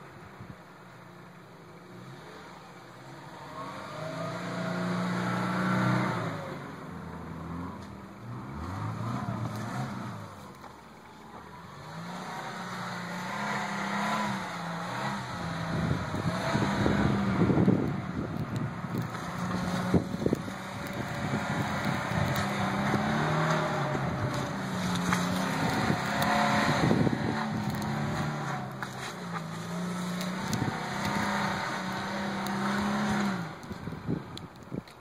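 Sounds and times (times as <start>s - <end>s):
car engine revving: 1.8s - 34.3s
wheels spinning in snow: 2.0s - 35.0s.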